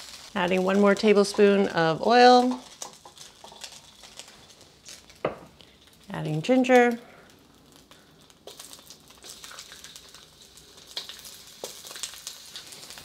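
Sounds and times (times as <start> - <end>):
ginger sizzling in hot oil: 0.0 - 13.0.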